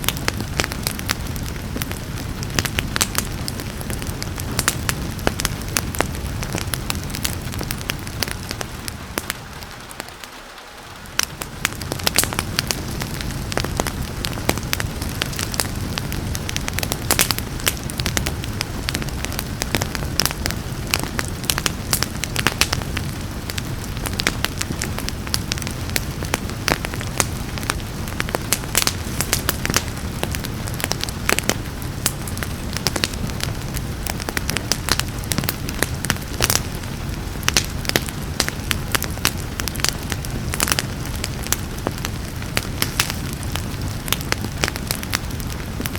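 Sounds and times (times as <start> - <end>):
low fire rumble: 0.0 - 45.9
rain hiss: 0.0 - 45.9
wood fire crackling: 0.0 - 45.9.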